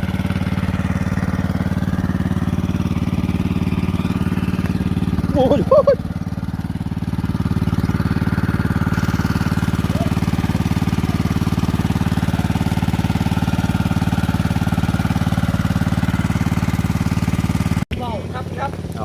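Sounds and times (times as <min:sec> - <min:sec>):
water pump engine puttering: 0:00.0 - 0:19.0.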